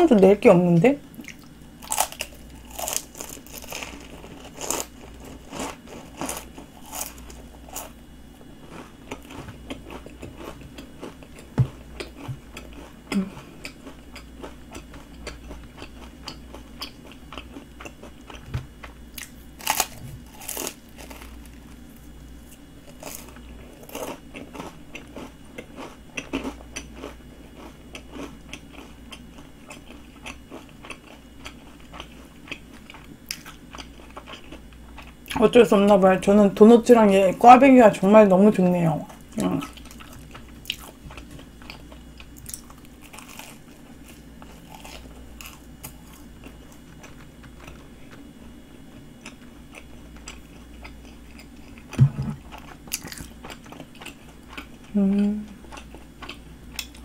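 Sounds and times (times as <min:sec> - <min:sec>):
crunchy pastry chewing: 0:01.2 - 0:35.4, 0:39.0 - 0:57.0.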